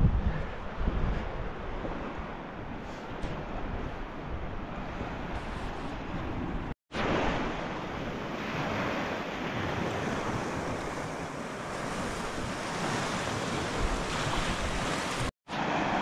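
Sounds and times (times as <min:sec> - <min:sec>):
wind buffeting microphone: 0:00.0 - 0:15.3.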